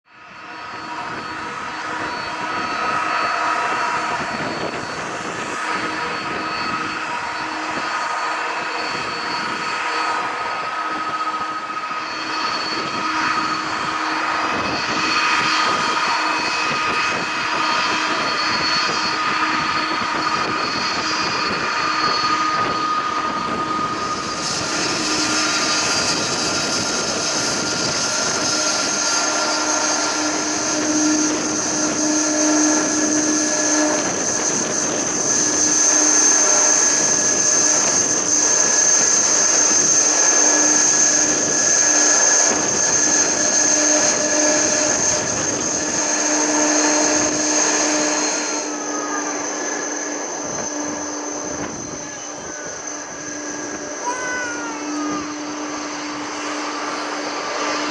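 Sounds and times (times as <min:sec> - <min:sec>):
jet engines humming and whining: 0:00.0 - 0:57.9.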